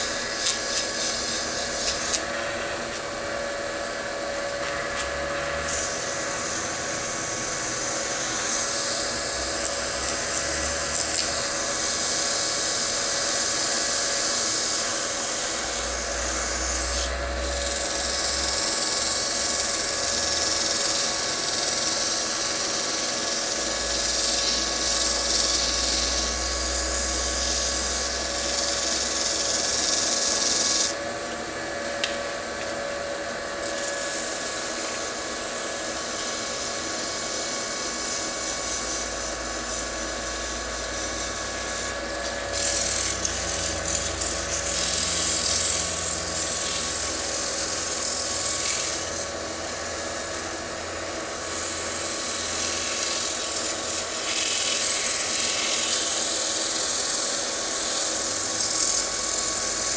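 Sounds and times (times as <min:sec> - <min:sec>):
rubbing hiss on spinning wood: 0:00.0 - 0:02.3, 0:05.0 - 0:31.0, 0:33.7 - 0:49.5, 0:51.2 - 0:59.9
lathe motor hum: 0:00.0 - 0:59.9.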